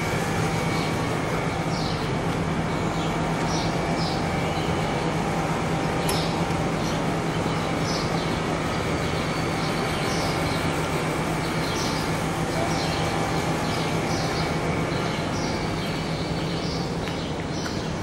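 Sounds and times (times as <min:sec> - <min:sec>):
birds chirping: 0:00.0 - 0:18.0
city background hum: 0:00.0 - 0:18.0.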